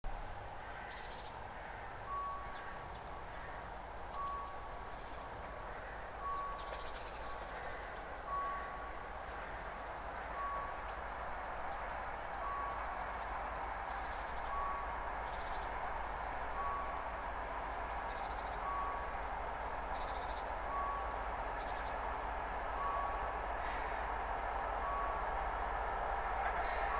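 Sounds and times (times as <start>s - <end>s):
distant locomotive rumble: 0.0s - 26.9s
birds chirping: 0.7s - 26.9s
level crossing signal beeping: 4.1s - 5.5s, 6.2s - 26.9s.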